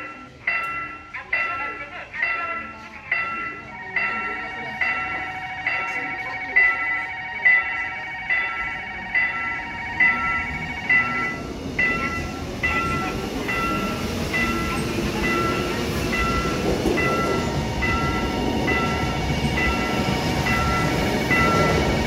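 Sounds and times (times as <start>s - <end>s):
electric train passing: 0.0s - 22.0s
level crossing warning bell: 0.0s - 22.0s.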